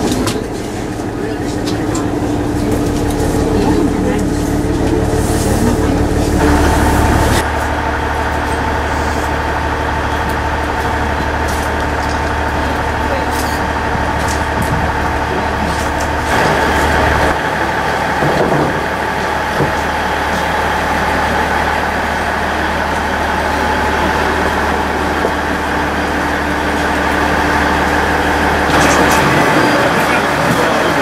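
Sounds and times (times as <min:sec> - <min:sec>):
diesel railcar engine idling: 0:00.0 - 0:31.0.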